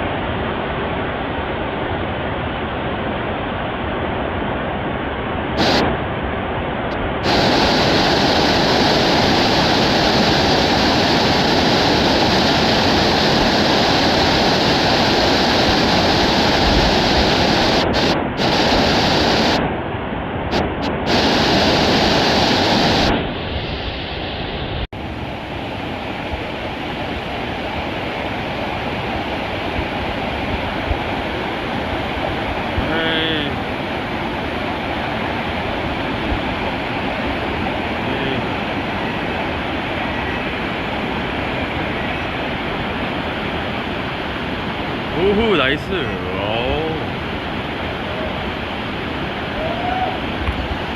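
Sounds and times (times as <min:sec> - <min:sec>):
mountain stream rushing: 0:00.0 - 0:19.8, 0:20.5 - 0:50.9
wind on microphone: 0:05.5 - 0:45.2, 0:46.7 - 0:50.9.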